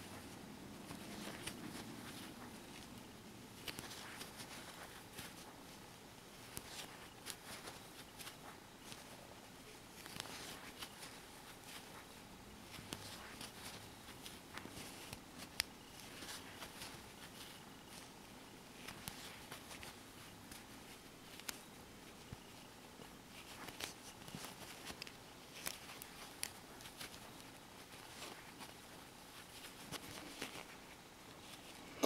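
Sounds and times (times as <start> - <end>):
low hiss: 0.0 - 32.0
yarn rustling: 0.0 - 32.0.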